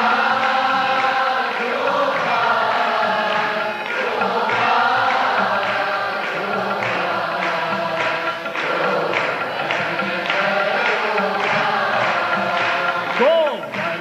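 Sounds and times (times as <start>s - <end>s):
devotional chanting with music: 0.0s - 14.0s.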